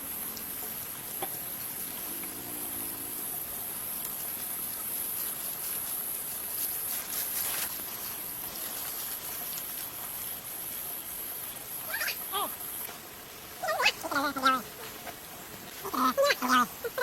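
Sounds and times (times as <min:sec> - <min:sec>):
insect-like hiss: 0:00.0 - 0:17.0.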